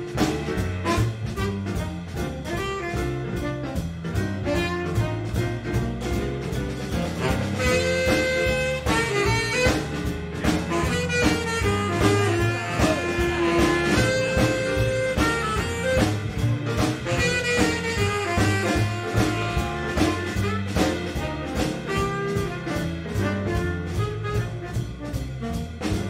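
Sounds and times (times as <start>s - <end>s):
drum kit beat: 0.0s - 26.0s
piano: 0.0s - 26.0s
upright bass walking: 0.0s - 26.0s
tenor saxophone melody: 0.8s - 3.8s, 4.4s - 5.4s, 7.2s - 10.1s, 10.7s - 25.5s.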